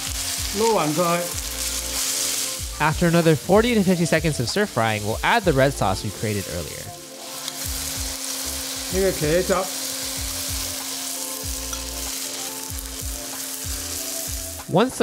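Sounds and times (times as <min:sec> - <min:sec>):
sauce sizzling in a wok: 0:00.0 - 0:15.0.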